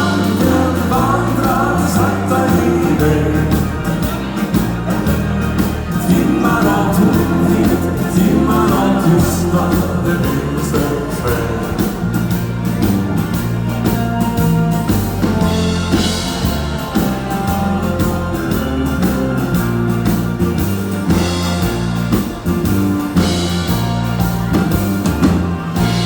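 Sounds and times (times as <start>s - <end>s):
band playing instrumental: 0.0s - 26.0s.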